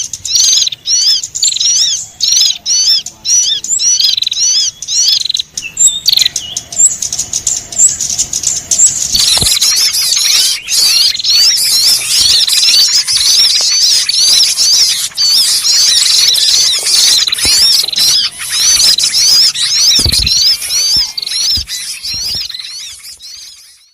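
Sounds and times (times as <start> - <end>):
small birds chirping and chattering: 0.0 - 23.9.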